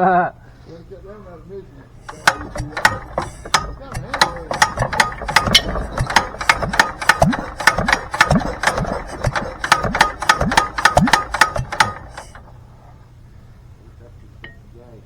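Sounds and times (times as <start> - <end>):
single-cylinder engine clattering: 0.9 - 13.1.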